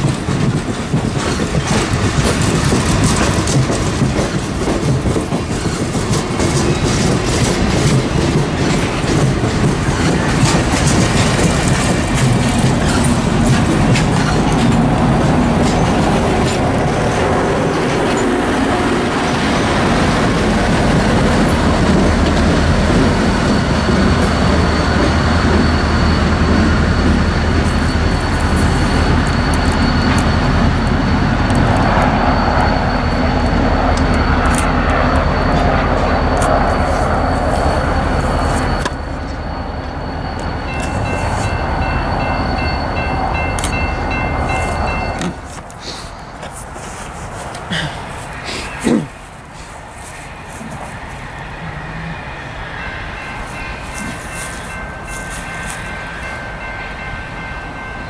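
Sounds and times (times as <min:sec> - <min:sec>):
train wheels rumbling on rails: 0:00.0 - 0:58.0
crossing bell ringing: 0:05.3 - 0:46.5, 0:47.7 - 0:58.0.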